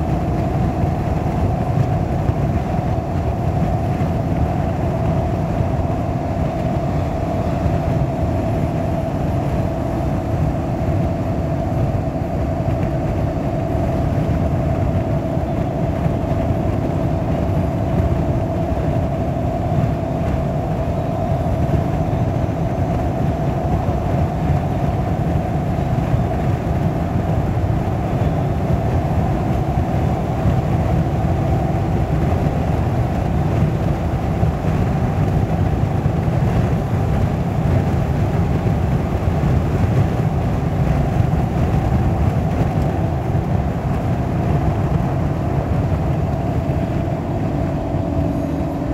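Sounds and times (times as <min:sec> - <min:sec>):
car cabin road drone: 0:00.0 - 0:48.9
constant hum: 0:00.0 - 0:48.9.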